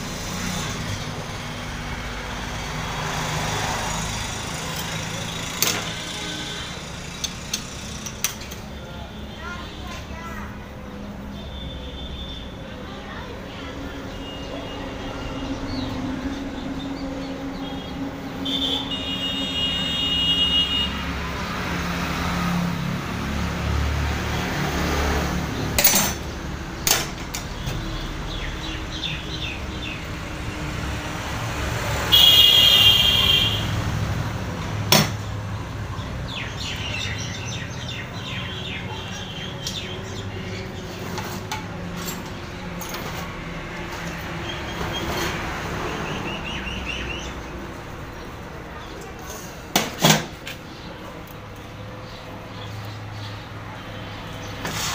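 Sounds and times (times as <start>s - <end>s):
road traffic noise: 0.0s - 54.9s.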